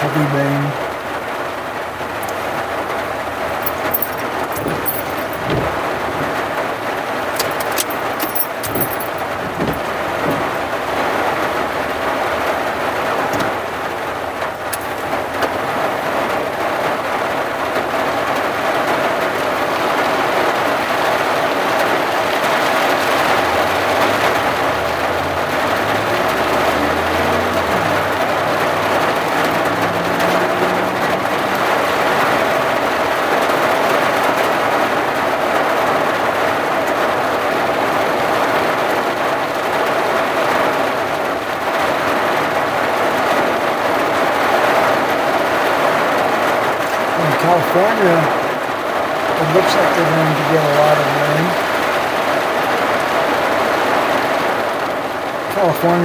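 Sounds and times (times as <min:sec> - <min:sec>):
heavy rain on vehicle roof: 0:00.0 - 0:56.0.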